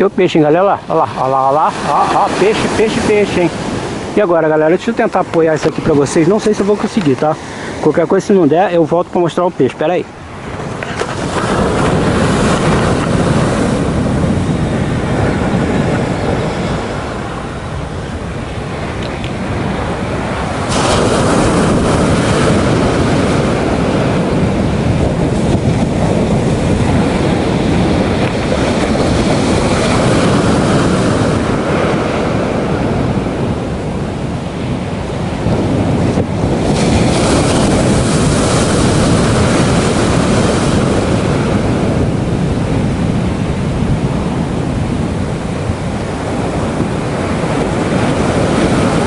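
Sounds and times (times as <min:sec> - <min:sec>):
ocean surf on sand: 0:00.0 - 0:49.0
wind buffeting microphone: 0:00.0 - 0:49.0.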